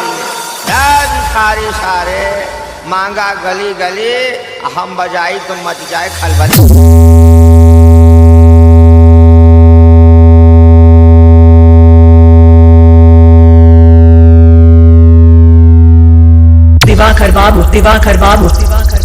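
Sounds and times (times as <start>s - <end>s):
loud synthesized bass tone: 0.7s - 3.8s, 5.8s - 19.0s.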